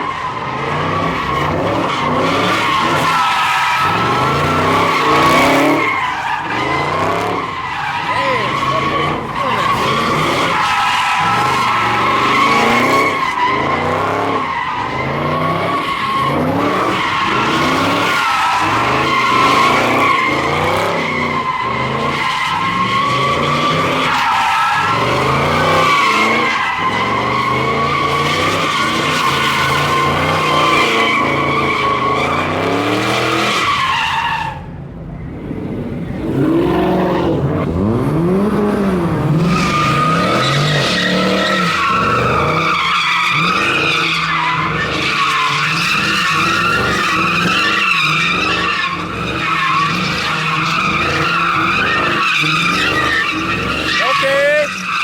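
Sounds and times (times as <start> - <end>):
car engine revving: 0.0 - 34.4, 35.0 - 55.0
tyres squealing: 0.0 - 34.6, 39.0 - 55.0.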